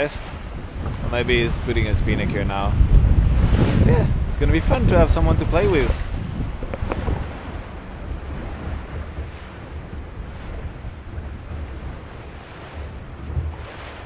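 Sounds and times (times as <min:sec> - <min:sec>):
water rushing along hull: 0:00.0 - 0:14.0
wind buffeting microphone: 0:00.0 - 0:14.0.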